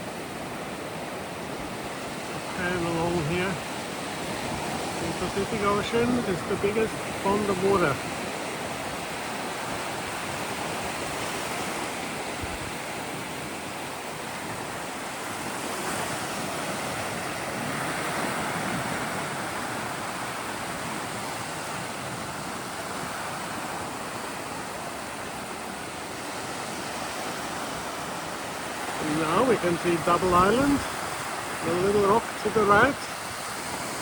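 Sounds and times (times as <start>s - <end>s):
ocean surf washing onto beach: 0.0s - 34.0s.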